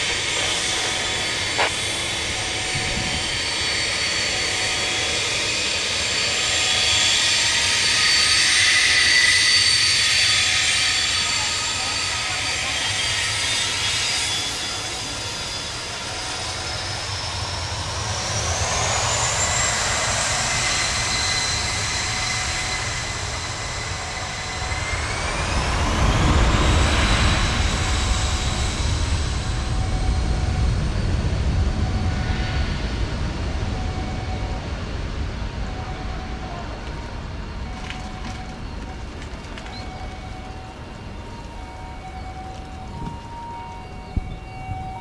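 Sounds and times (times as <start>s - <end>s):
jet turbine whine: 0.0s - 45.0s.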